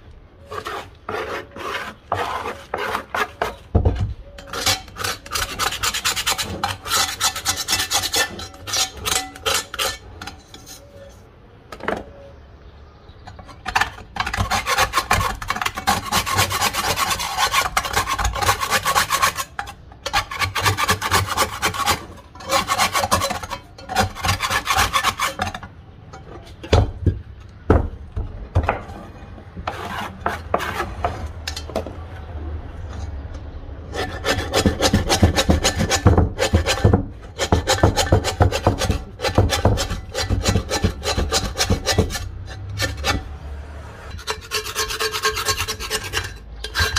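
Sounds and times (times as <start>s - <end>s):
metal scraper scraping cast iron: 0.4s - 11.9s, 13.2s - 27.9s, 28.6s - 46.9s.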